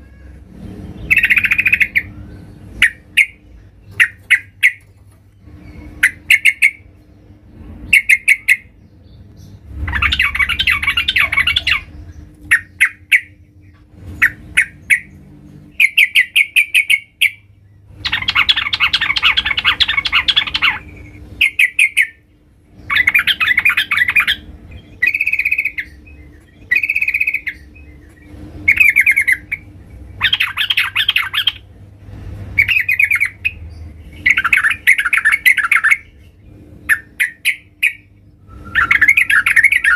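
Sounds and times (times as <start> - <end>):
bird chattering calls: 0.2 - 5.0, 5.6 - 7.0, 7.8 - 8.8, 9.8 - 31.7, 32.6 - 39.9.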